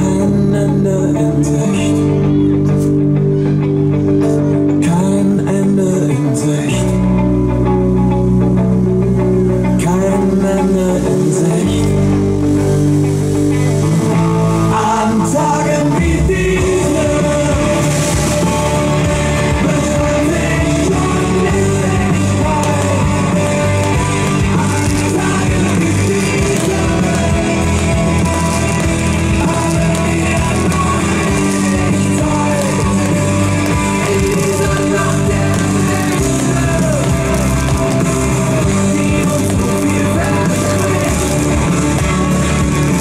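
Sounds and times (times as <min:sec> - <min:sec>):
song with band and singing: 0:00.0 - 0:08.2, 0:09.1 - 0:43.0.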